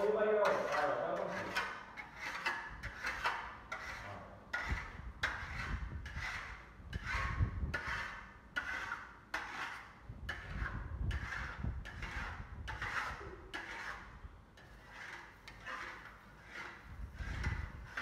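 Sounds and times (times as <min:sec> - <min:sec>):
steel tool scraping plaster: 0:00.0 - 0:18.0.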